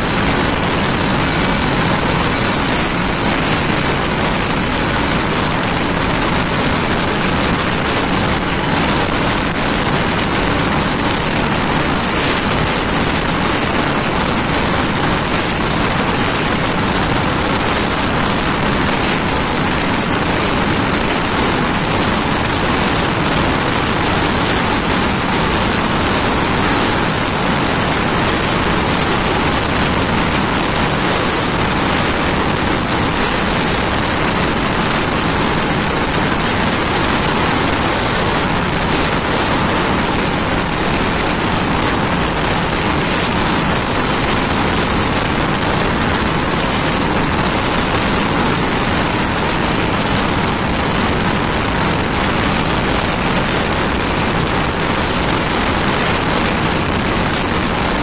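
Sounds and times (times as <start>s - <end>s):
motorcycle engine running hard: 0.0s - 58.0s
wind and road noise: 0.0s - 58.0s.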